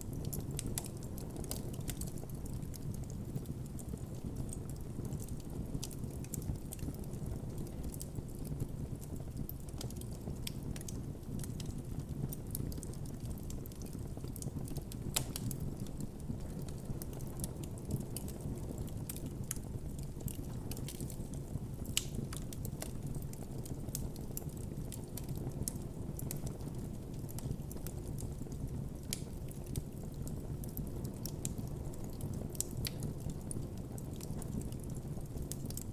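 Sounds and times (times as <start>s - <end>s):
campfire crackling and popping: 0.0s - 35.9s
low rumble of flames: 0.0s - 35.9s
sharp snaps of fire: 0.0s - 35.9s.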